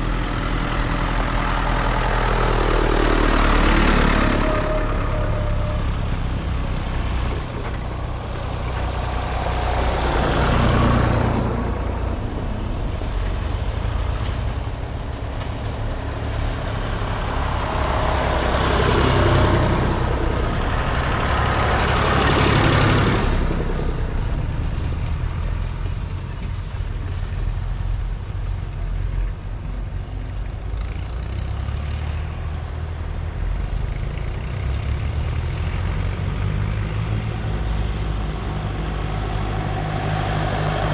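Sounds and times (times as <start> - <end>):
tractors driving past: 0.0 - 40.9.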